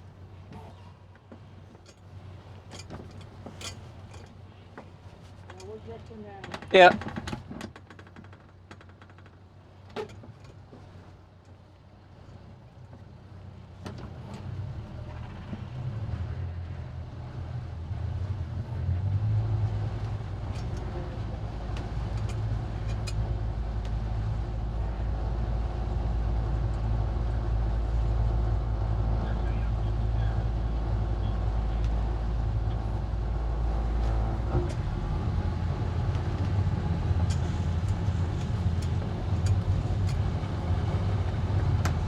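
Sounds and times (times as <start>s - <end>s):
boat engine droning: 0.0s - 7.3s, 9.8s - 42.0s.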